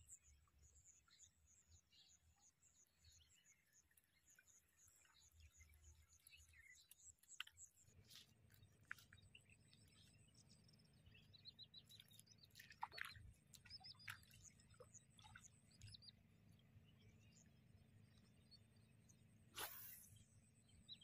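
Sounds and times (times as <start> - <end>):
faint bird chirps: 0.0 - 21.0
low steady hum: 0.0 - 21.0.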